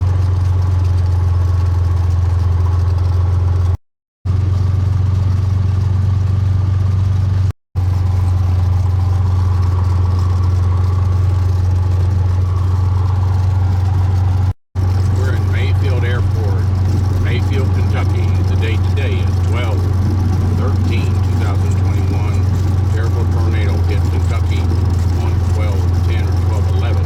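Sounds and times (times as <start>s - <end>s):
plane engine drone: 4.3s - 27.0s.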